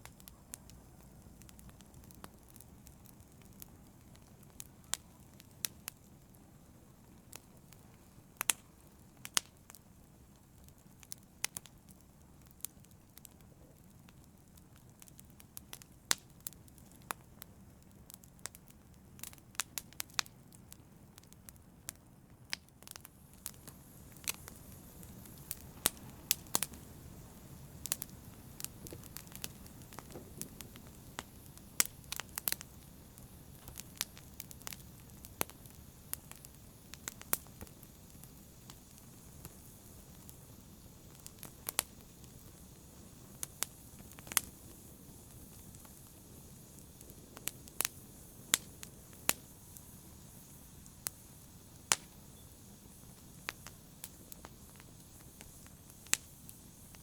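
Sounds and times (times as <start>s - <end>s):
low rush of burning: 0.0s - 20.1s, 22.3s - 57.0s
fire crackling and popping: 0.0s - 57.0s.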